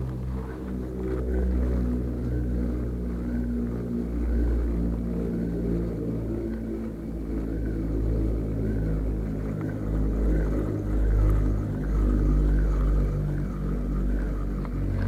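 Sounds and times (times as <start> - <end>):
engine running steadily: 0.0 - 15.0
faint pulsing sound: 0.0 - 15.0.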